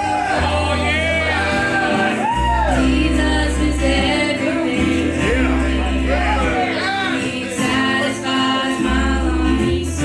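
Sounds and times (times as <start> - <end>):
band playing: 0.0 - 10.0
gospel singing voices: 0.0 - 10.0
held bass notes: 0.0 - 10.0.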